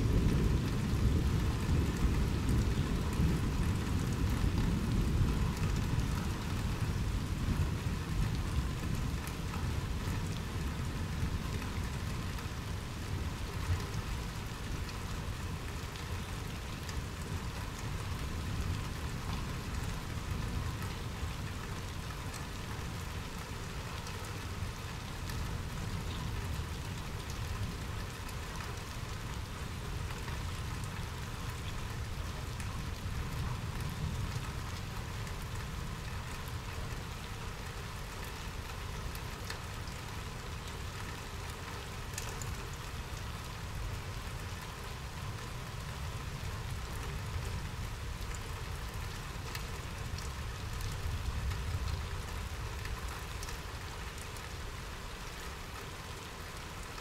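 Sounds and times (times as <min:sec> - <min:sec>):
raindrop ticks: 0:00.0 - 0:57.0
steady rain hiss: 0:00.0 - 0:57.0.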